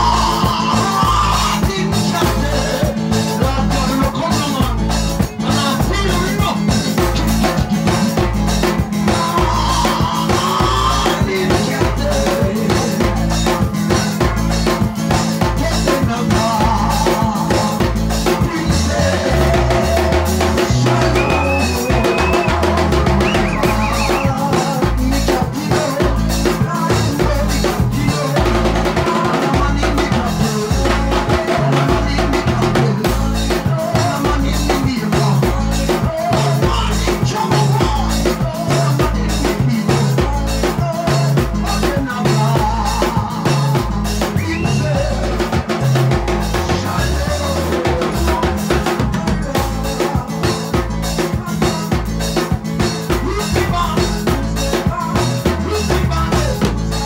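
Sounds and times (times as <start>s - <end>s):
drum kit beat: 0.0s - 57.0s
stepping bass line: 0.0s - 57.0s.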